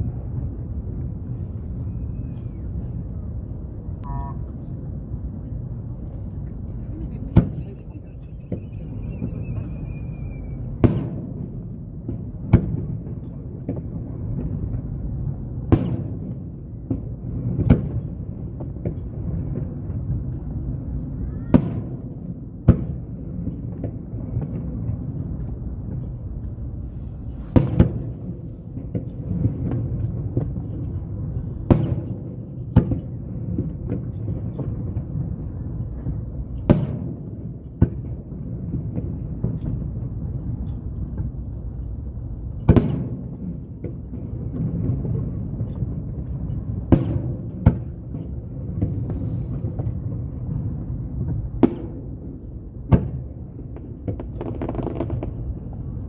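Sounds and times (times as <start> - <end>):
low background rumble: 0.0 - 56.0
firework shells booming: 7.3 - 26.2, 27.2 - 56.0.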